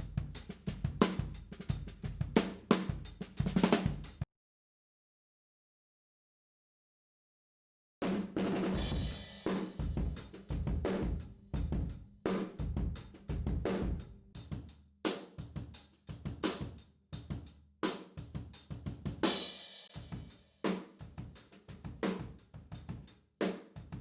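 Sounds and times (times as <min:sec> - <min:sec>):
drum kit groove: 0:00.0 - 0:04.2, 0:08.0 - 0:24.0.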